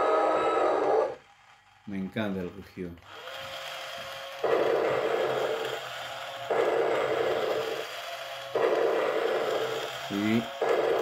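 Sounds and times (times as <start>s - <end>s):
toy motor whine: 0.0s - 11.0s.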